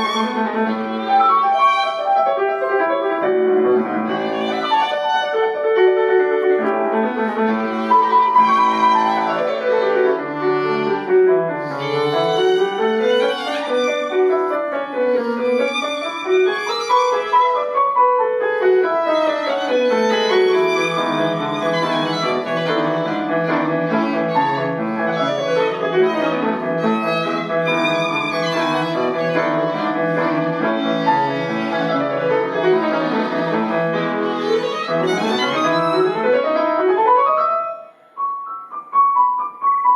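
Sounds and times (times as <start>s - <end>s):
piano accompaniment: 0.0s - 39.9s
violin melody: 0.0s - 39.9s.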